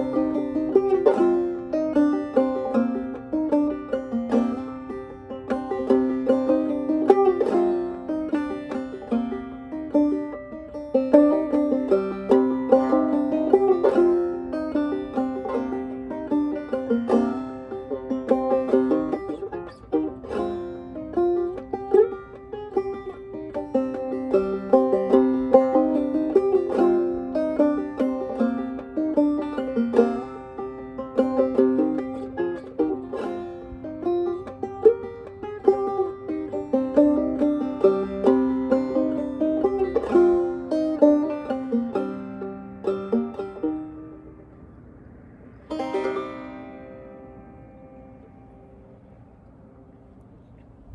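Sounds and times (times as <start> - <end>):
banjo playing slow melody: 0.0 - 50.2.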